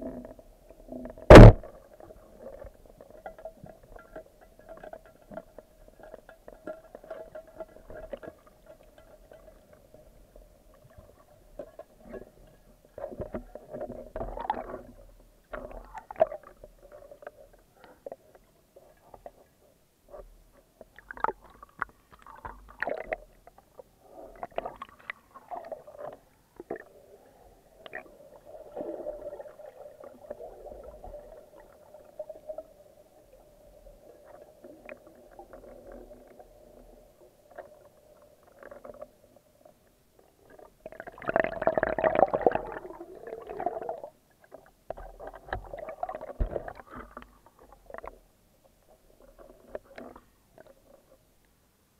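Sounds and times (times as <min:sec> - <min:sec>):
underwater bubbling: 0:00.0 - 0:51.4.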